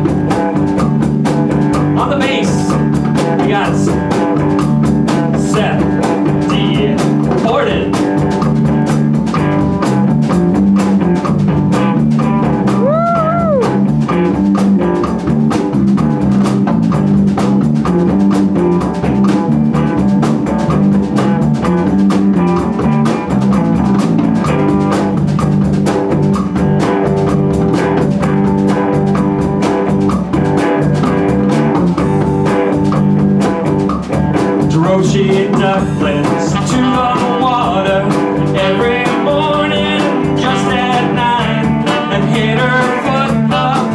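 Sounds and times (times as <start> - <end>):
drum kit: 0.0 - 43.9
electric guitars: 0.0 - 43.9.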